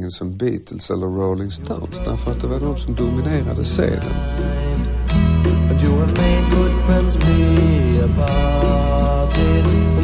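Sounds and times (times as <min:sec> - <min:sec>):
held bass notes: 0:01.5 - 0:10.0.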